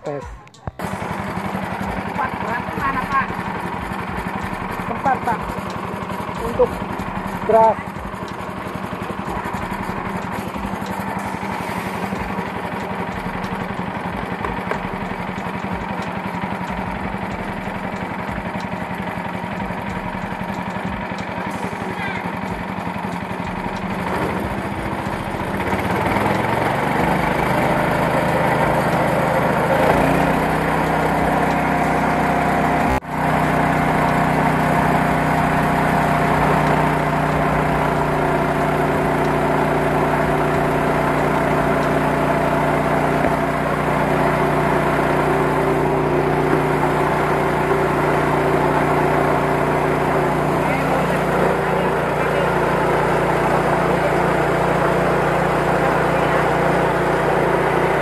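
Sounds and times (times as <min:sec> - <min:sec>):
rice mill engine running: 0:00.0 - 0:58.0.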